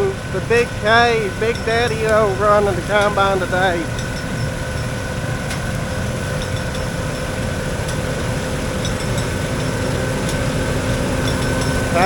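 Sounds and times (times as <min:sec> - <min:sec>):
combine harvester engine rumble: 0:00.0 - 0:12.0
constant whine: 0:00.0 - 0:12.0.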